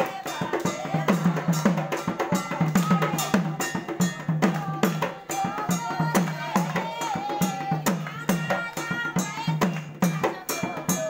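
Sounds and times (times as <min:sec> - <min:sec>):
barrel drum beaten in fast rhythm: 0:00.0 - 0:11.0.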